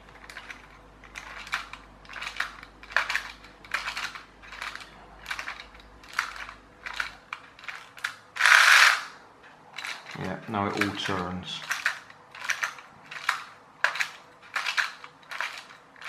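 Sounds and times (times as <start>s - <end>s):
plastic gear teeth clicking: 0.1s - 9.2s, 9.8s - 16.0s.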